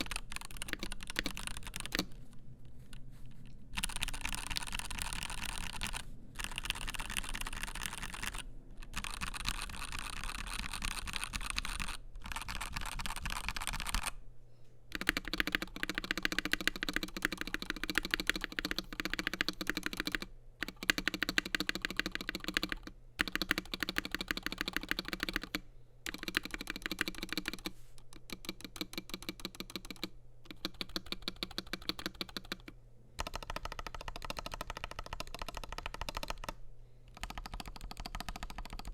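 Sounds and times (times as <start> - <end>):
mechanical keyboard typing: 0.0 - 2.2, 2.8 - 14.2, 14.9 - 38.9.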